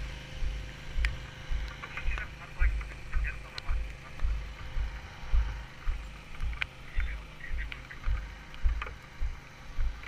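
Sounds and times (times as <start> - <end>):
walking footsteps: 0.0 - 10.0.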